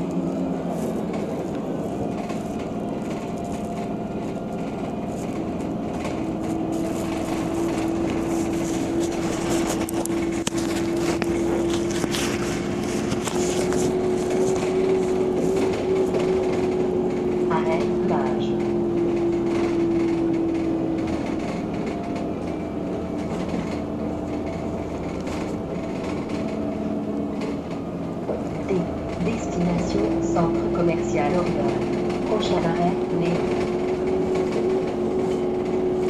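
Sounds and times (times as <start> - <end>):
bus engine and road noise: 0.0 - 36.0
interior rattling and creaking: 0.0 - 36.0.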